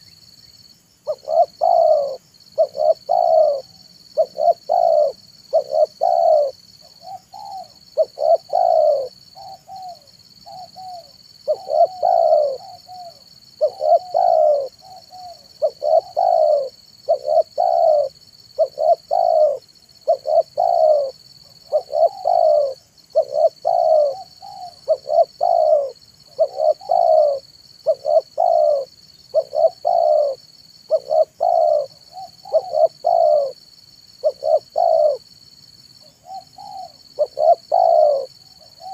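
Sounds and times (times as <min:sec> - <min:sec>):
dove cooing: 0:01.0 - 0:33.6, 0:34.2 - 0:35.3, 0:36.0 - 0:38.9.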